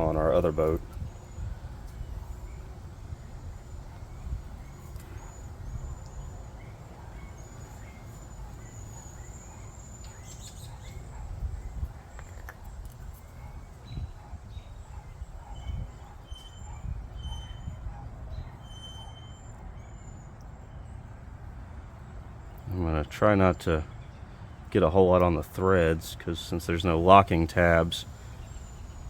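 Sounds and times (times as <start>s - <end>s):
small birds chirping: 0.0s - 21.1s, 26.8s - 29.0s.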